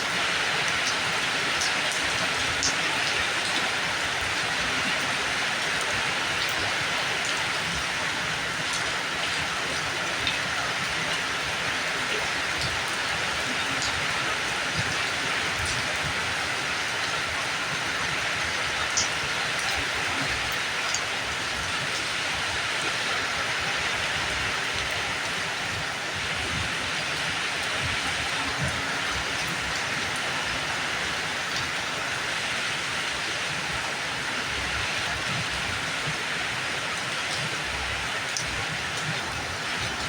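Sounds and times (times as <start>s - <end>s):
steady rainfall: 0.0s - 40.0s.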